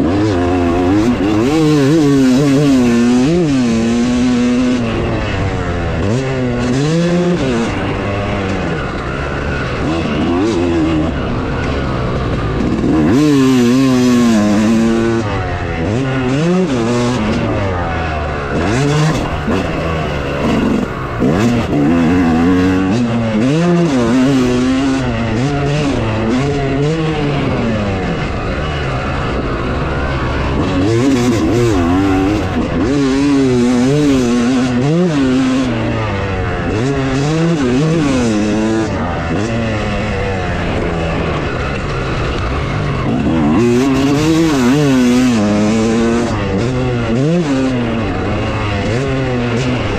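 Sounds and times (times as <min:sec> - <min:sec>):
two-stroke dirt bike engine revving: 0:00.0 - 0:49.9.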